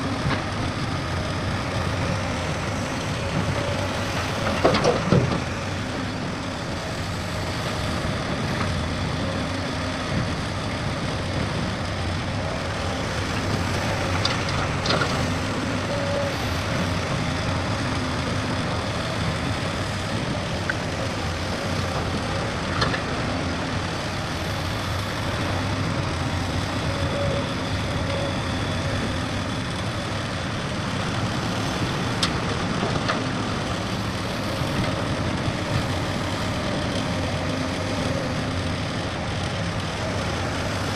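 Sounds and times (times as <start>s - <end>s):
diesel construction machinery running: 0.0s - 40.9s.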